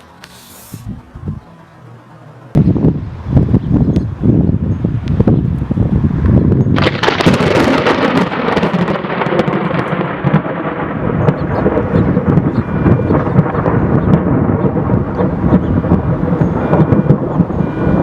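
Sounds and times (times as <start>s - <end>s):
thunder crack and rumble: 2.5s - 18.0s.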